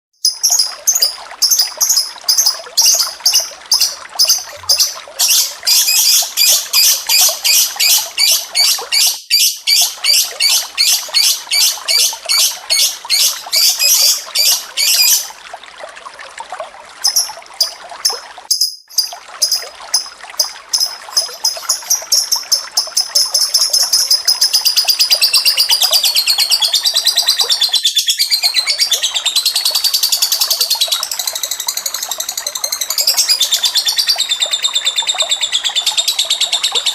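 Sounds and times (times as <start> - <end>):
running water trickling: 0.2 - 36.9.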